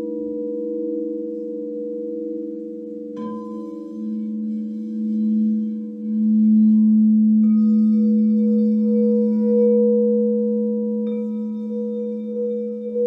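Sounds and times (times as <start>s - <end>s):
singing bowls ringing: 0.0s - 13.0s.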